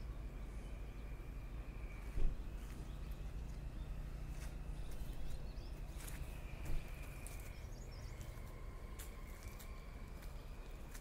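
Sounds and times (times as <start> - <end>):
faint bird chirps: 0.0 - 10.9
low rumble on microphone: 0.0 - 11.0.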